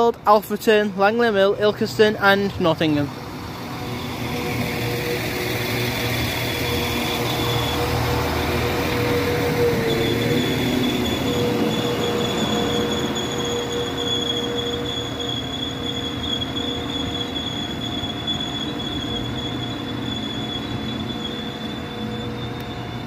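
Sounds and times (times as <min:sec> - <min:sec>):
train rumbling: 0:00.0 - 0:23.0
high-pitched squeal: 0:00.9 - 0:23.0.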